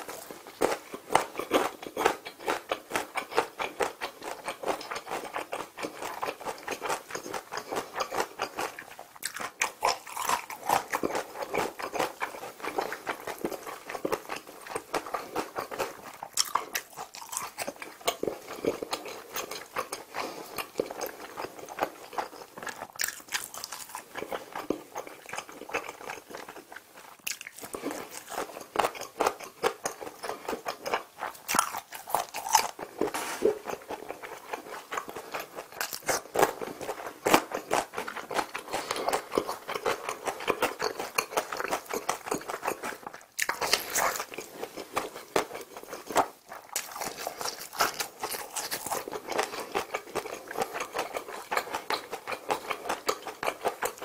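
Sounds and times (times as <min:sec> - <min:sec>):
wet chewing and lip smacks: 0:00.1 - 0:54.0.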